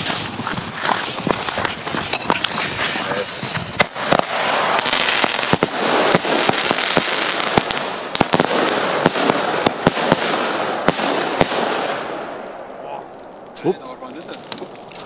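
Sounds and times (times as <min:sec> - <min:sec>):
firework bangs: 0:00.0 - 0:15.0
fireworks crackling: 0:00.0 - 0:15.0.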